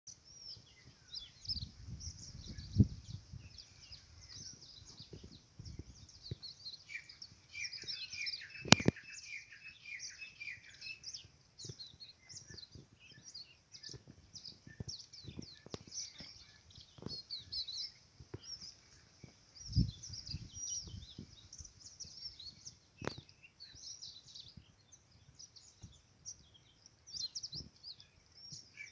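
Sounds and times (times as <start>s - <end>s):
small birds chirping: 0.1s - 28.9s.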